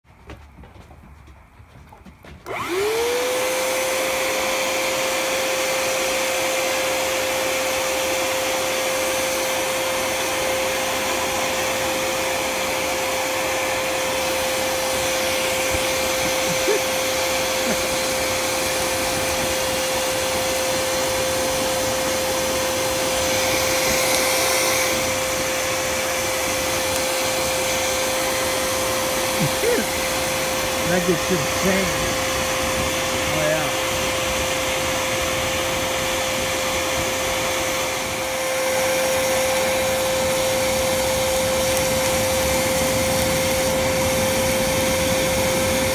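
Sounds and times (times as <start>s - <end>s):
electric air blower whine: 1.8s - 45.9s.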